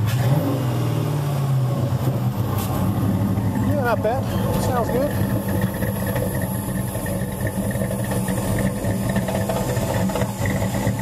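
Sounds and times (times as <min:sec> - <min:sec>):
engine idling through exhaust: 0:00.0 - 0:11.0.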